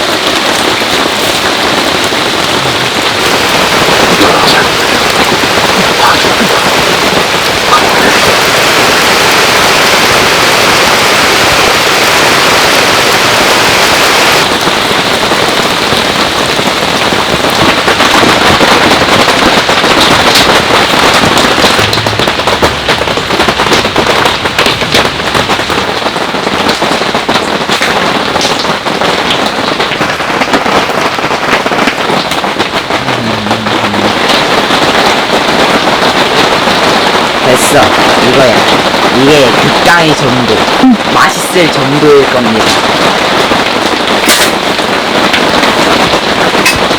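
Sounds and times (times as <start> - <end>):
heavy rain pattering: 0.0 - 46.9.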